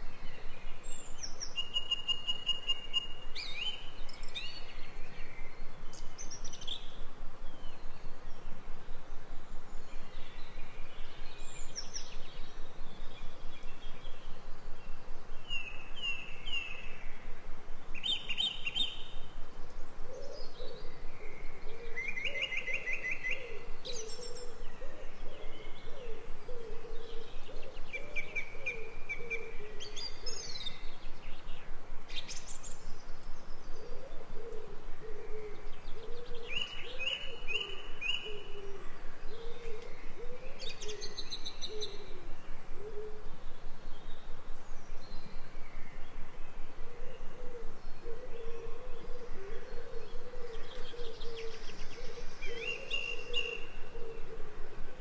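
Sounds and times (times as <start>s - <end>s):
low cooing bird call: 0.0s - 55.0s
songbirds chirping and trilling: 0.0s - 55.0s
steady background hiss: 0.0s - 55.0s.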